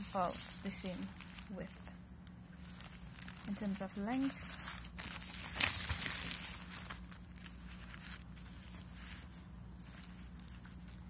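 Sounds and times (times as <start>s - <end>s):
plastic wrapper crinkling: 0.0s - 11.0s
steady low hum: 0.0s - 11.0s.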